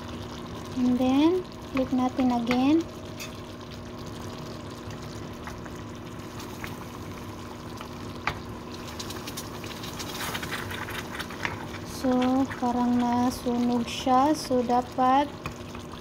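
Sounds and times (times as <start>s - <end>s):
chicken sizzling in sauce: 0.0s - 16.0s.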